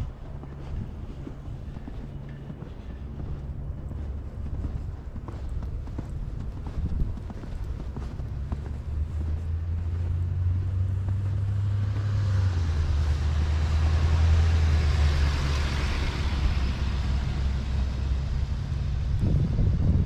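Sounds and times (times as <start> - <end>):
truck engine hum: 0.0 - 20.0.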